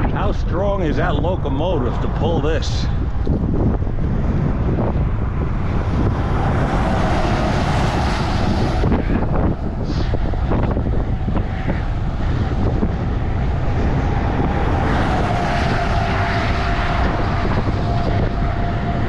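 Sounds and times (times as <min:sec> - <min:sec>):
highway traffic noise: 0:00.0 - 0:19.0
wind buffeting microphone: 0:00.0 - 0:19.0
truck passing hum: 0:01.6 - 0:19.0.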